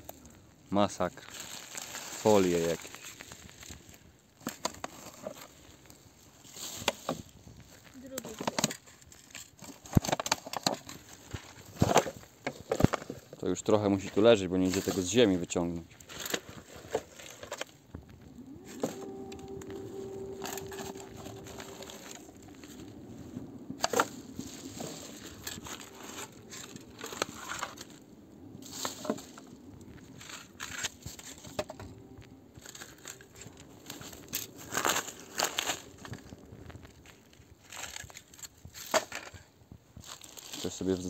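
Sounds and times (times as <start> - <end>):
sharp crackles and snaps: 0.0 - 13.5, 14.1 - 41.0
plastic and foil crinkling and tearing: 0.0 - 41.0.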